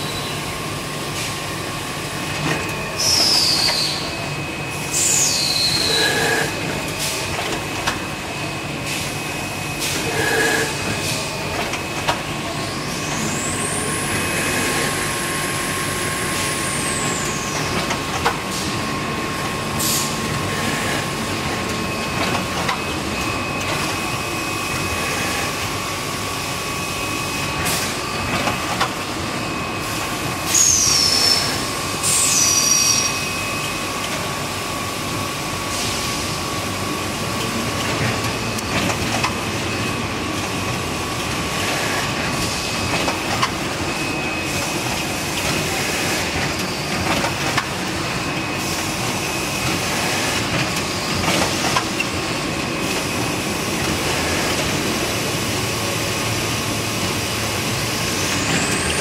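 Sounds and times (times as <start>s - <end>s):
thin machine whine: 0.0s - 59.0s.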